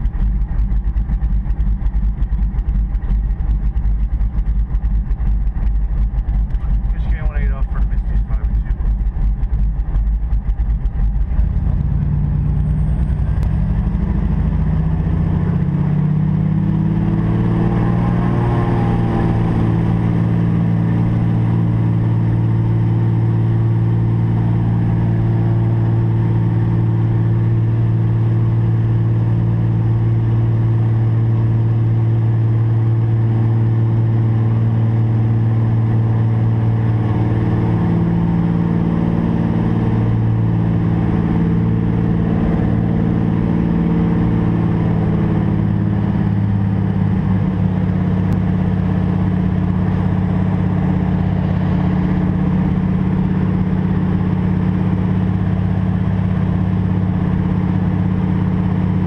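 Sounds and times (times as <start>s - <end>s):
propeller aircraft engine running: 0.0s - 59.0s.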